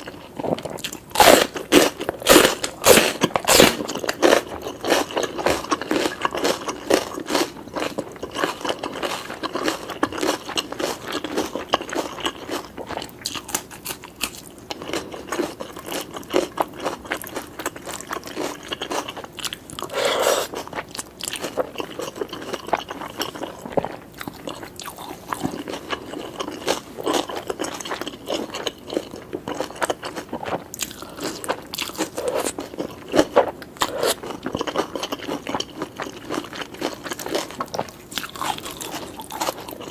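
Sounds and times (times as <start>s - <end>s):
chewing food crunches: 0.0s - 39.9s.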